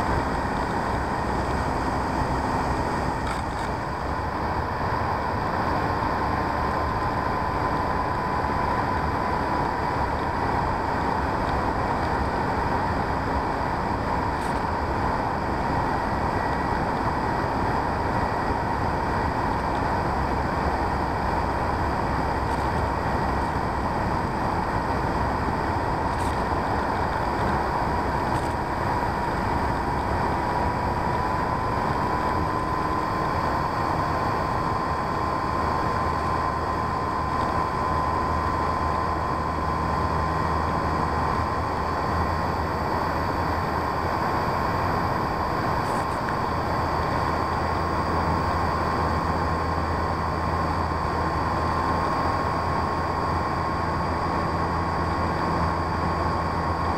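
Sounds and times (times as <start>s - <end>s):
rushing wind: 0.0s - 56.9s.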